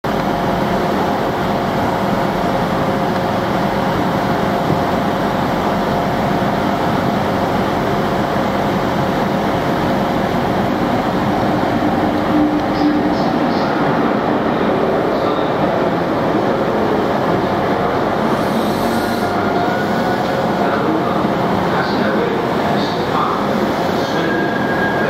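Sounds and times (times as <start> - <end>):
diesel train engine rumble: 0.0 - 25.0.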